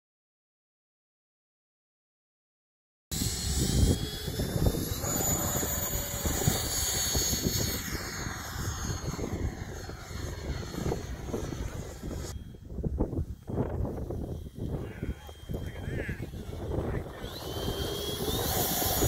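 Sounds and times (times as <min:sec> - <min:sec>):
model airplane motor whine: 0:03.1 - 0:19.0
wind buffeting microphone: 0:03.1 - 0:19.0.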